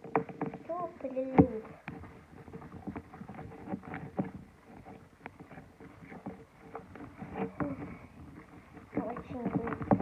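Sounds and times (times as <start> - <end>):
slime squelching when stirred: 0.0 - 10.0.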